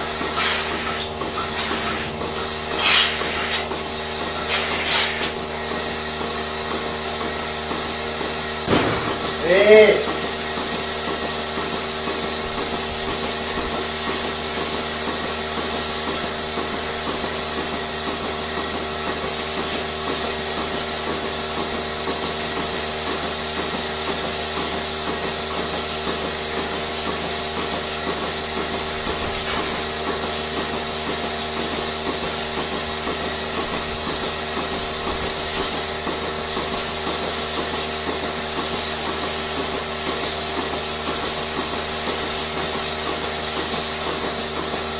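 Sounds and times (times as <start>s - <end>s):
machine hiss and hum: 0.0s - 44.9s.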